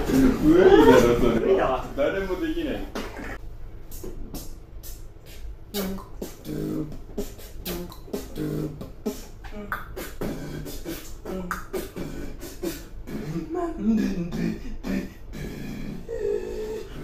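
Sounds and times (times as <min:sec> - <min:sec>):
person beatboxing: 0:00.0 - 0:01.3, 0:03.0 - 0:17.0.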